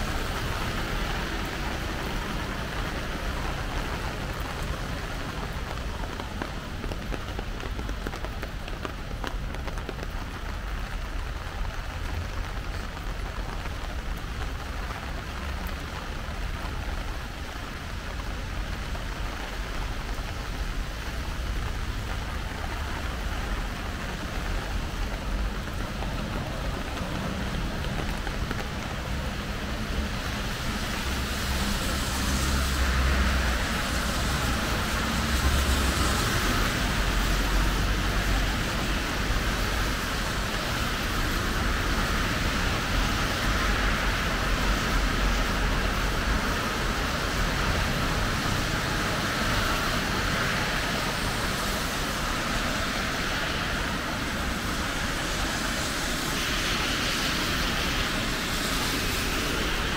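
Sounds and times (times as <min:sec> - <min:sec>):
heavy rain: 0:00.0 - 0:59.9
traffic engine rumble: 0:00.0 - 0:59.9.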